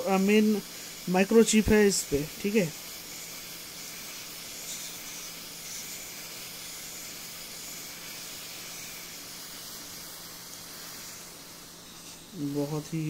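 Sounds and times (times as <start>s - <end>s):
hot air station hissing: 0.0s - 13.0s.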